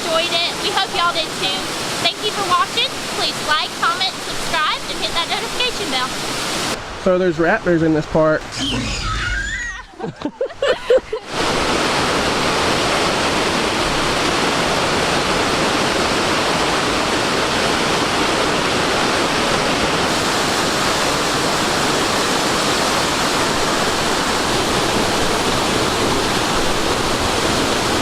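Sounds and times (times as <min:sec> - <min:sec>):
waterfall rushing: 0:00.0 - 0:07.6, 0:11.0 - 0:28.0.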